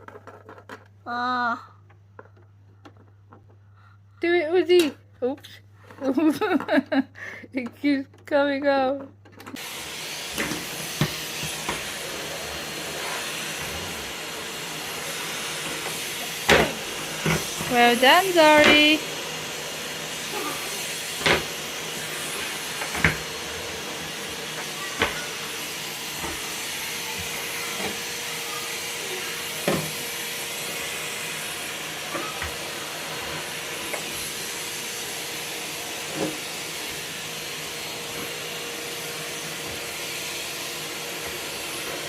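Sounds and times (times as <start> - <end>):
vacuum cleaner running: 7.9 - 42.0.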